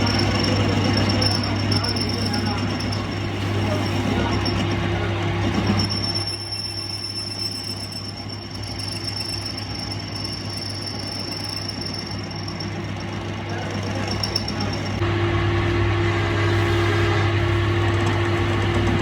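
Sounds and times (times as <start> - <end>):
rough grinding noise: 0.0 - 15.0, 16.2 - 19.0
workshop machine humming and whining: 0.0 - 19.0.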